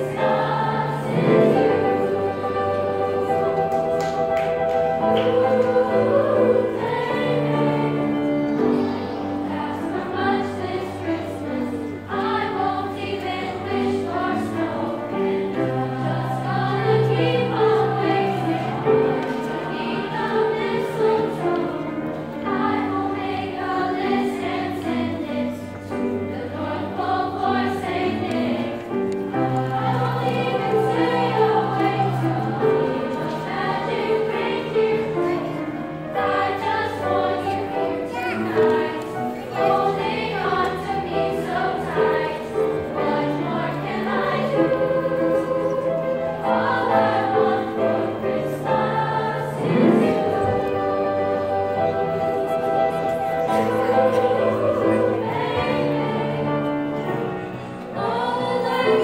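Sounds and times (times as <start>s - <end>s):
instrumental accompaniment: 0.0s - 59.0s
youth choir singing: 0.0s - 59.0s.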